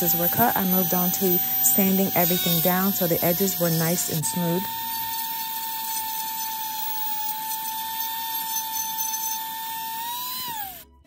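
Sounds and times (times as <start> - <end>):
power sander whining: 0.0 - 11.0.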